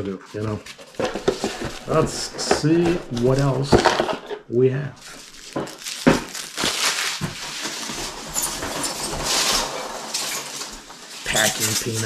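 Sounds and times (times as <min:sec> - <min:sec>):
foam packing peanuts rustling: 0:00.0 - 0:04.2, 0:05.0 - 0:12.0.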